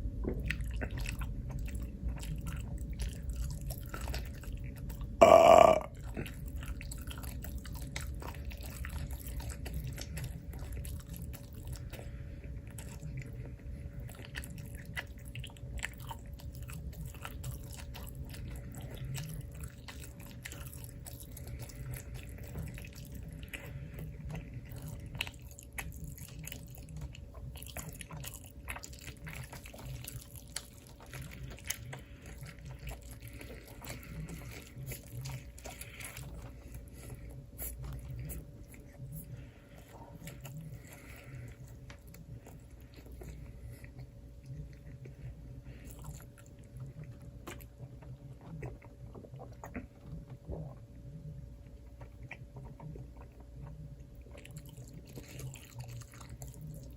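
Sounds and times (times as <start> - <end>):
chewing with crunches: 0.0 - 56.9
faint steady hum: 0.0 - 56.9.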